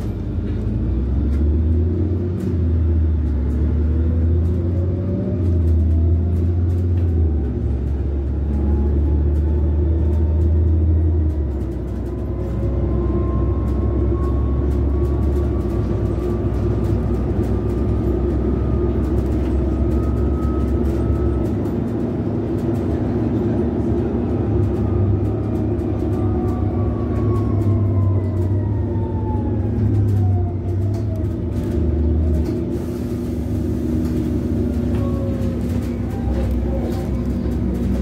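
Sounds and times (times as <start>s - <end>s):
bus engine drone: 0.0s - 38.0s.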